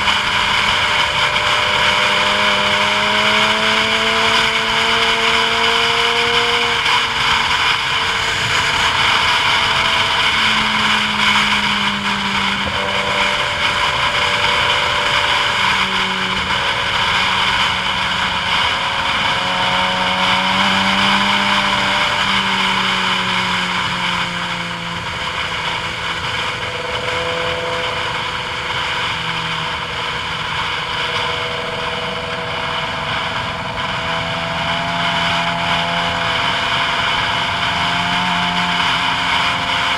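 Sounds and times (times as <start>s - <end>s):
steady rushing noise: 0.0s - 39.9s
vehicle engine running under load: 0.0s - 39.9s.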